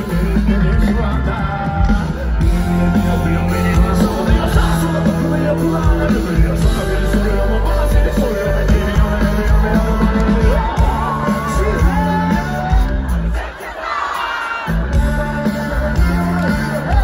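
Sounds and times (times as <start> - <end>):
person singing: 0.0 - 13.5, 14.1 - 17.0
live rock band playing: 0.0 - 17.0.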